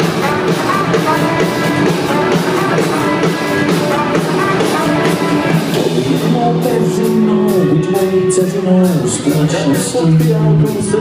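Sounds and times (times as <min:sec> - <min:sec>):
drum beat: 0:00.0 - 0:11.0
electric guitars: 0:00.0 - 0:11.0.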